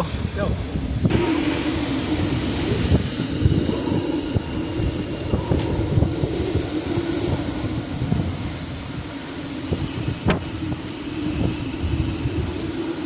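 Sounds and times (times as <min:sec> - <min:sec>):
strong wind blowing: 0:00.0 - 0:13.0
wind buffeting microphone: 0:00.0 - 0:13.0
low wavering tone: 0:01.1 - 0:13.0.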